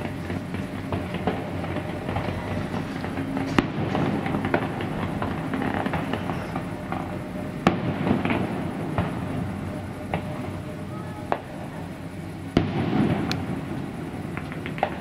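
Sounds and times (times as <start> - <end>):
firework bang: 0.0 - 15.0
fireworks crackling: 0.0 - 15.0.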